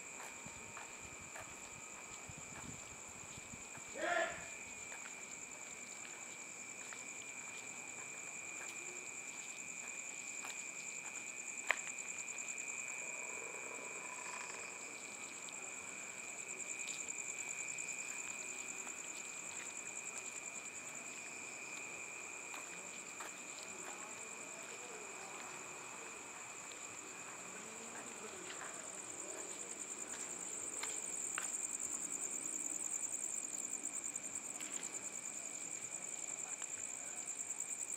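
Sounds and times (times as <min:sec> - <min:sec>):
crickets trilling: 0:00.1 - 0:37.9.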